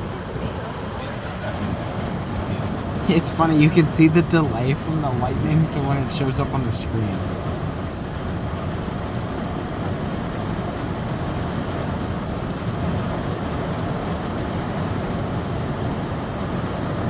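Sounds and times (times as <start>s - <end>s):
heavy rain on a car roof: 0.0s - 17.0s.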